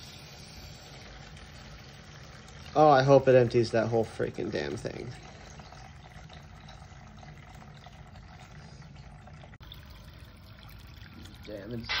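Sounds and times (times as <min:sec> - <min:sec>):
liquid pouring into plastic bowl: 0:00.6 - 0:12.0.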